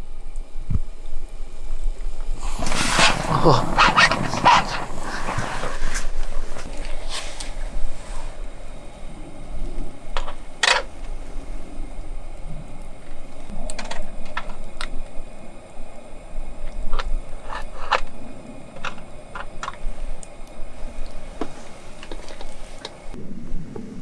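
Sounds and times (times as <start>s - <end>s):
campfire crackling and popping: 1.0s - 23.2s.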